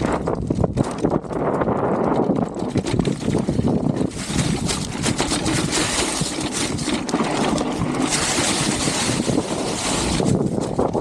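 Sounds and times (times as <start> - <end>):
bike rattling and knocking: 0.0 - 11.0
wind buffeting microphone: 0.0 - 11.0.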